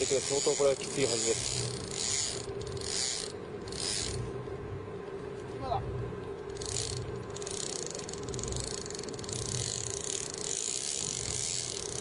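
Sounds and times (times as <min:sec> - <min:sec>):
fishing reel ratchet ticking: 0:00.0 - 0:04.2, 0:06.5 - 0:12.0
steady low hum: 0:00.0 - 0:12.0.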